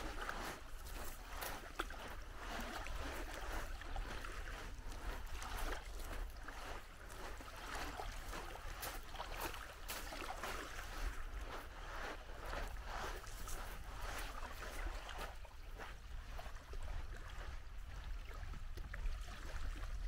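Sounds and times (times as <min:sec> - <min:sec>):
small waves lapping on shore: 0:00.0 - 0:20.0.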